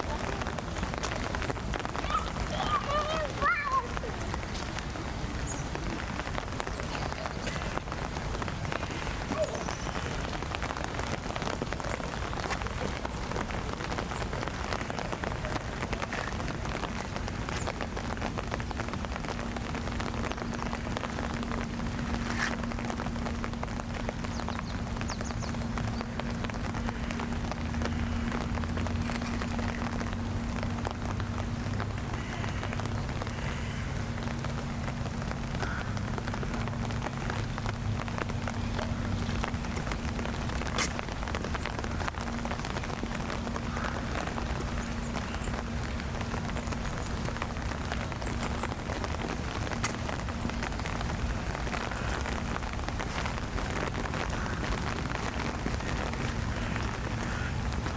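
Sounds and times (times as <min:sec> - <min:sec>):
rain drops pattering: 0:00.0 - 0:57.9.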